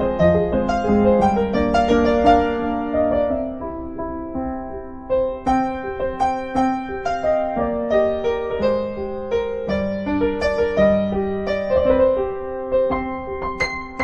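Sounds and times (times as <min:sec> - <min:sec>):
festive solo piano piece: 0:00.0 - 0:14.0.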